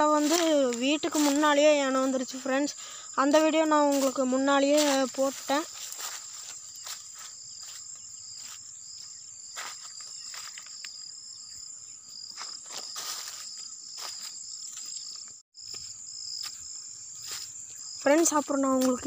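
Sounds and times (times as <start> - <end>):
footsteps on dry leaves: 0.0 - 2.4, 3.8 - 11.0, 12.2 - 19.0
insects chirring: 0.0 - 19.0
pulsing insect trill: 0.0 - 19.0.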